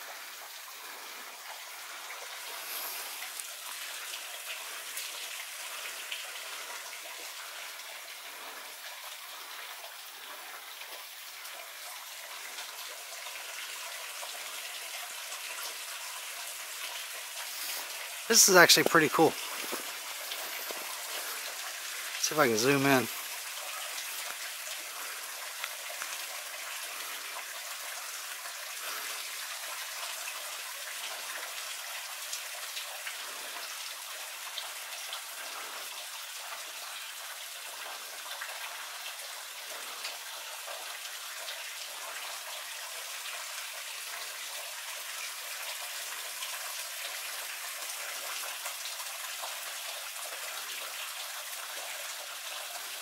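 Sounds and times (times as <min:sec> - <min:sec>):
meltwater dripping: 0:00.0 - 0:44.3.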